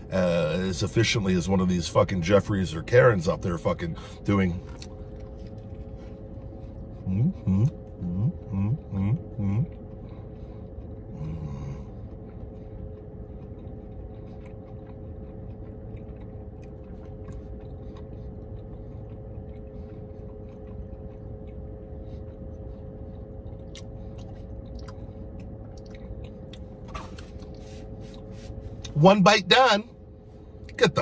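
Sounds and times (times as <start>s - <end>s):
steady low hum: 0.0s - 31.0s
man chewing food: 3.3s - 29.0s.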